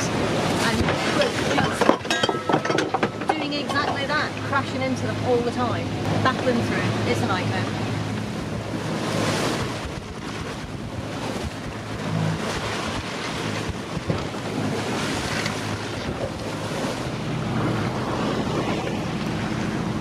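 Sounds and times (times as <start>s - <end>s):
waves breaking on hull: 0.0s - 20.0s
wind buffeting microphone: 0.0s - 20.0s.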